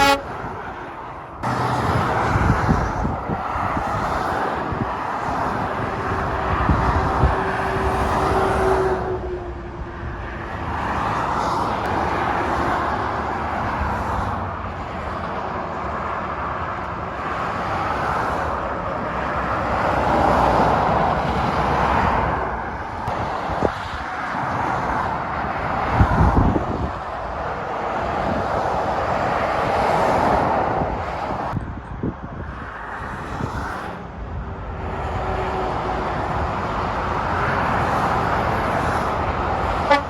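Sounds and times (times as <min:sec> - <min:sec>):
motorway traffic: 0:00.0 - 0:40.0.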